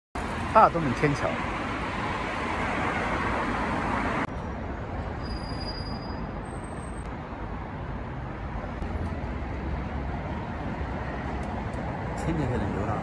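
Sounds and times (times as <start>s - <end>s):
road traffic: 0.2s - 13.0s.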